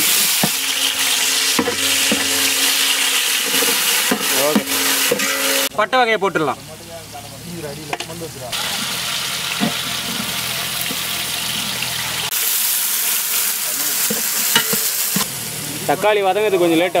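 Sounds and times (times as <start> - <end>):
onions frying in hot oil: 0.0 - 17.0.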